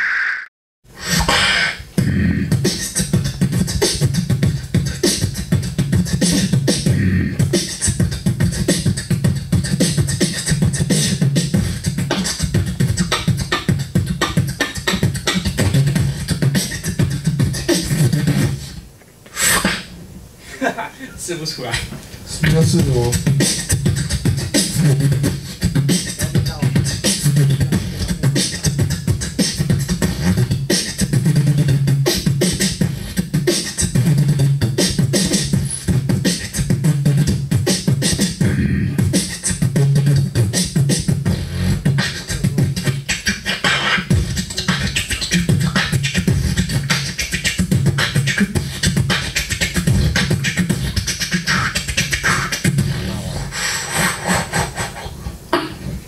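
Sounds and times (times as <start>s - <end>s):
beatboxing into microphone: 0.9s - 56.0s.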